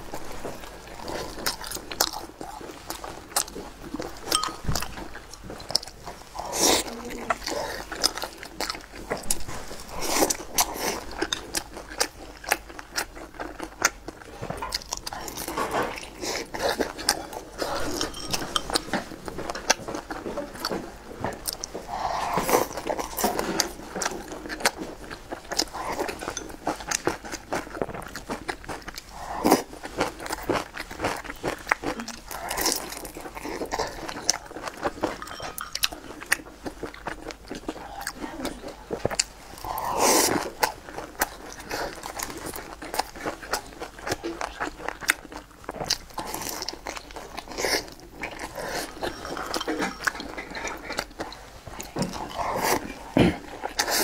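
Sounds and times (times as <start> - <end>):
person chewing dumplings: 0.0 - 54.0.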